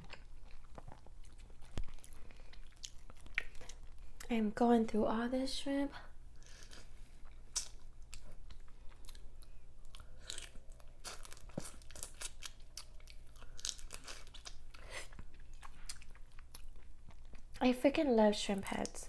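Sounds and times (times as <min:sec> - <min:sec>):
chewing and crunching shrimp: 0:00.0 - 0:04.3, 0:06.3 - 0:17.6.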